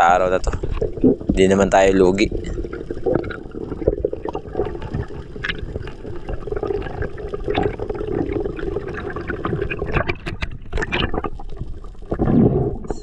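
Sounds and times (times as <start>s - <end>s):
muffled underwater water noise: 0.0s - 13.0s.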